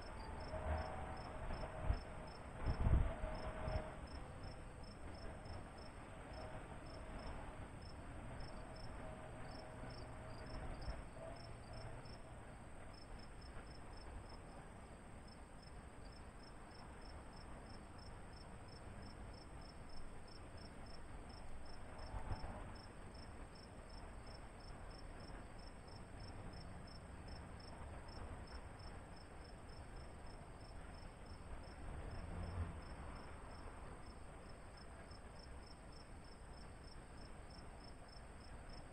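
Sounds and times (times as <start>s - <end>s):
faint low outdoor rumble: 0.0s - 38.9s.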